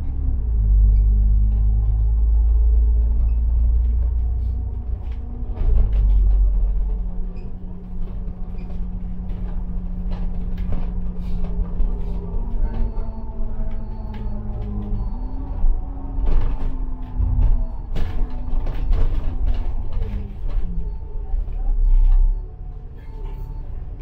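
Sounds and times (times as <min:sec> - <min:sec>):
bus engine rumbling: 0:00.0 - 0:24.0.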